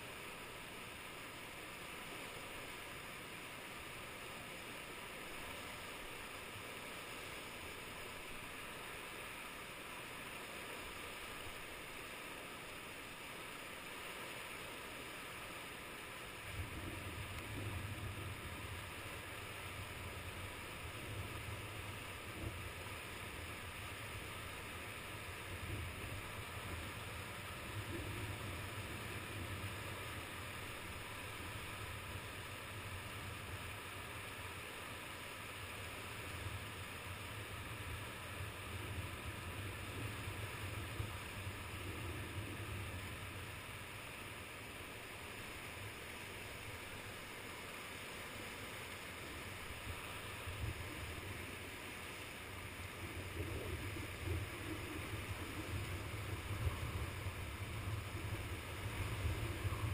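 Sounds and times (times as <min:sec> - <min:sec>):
rushing water current: 0:00.0 - 0:59.9.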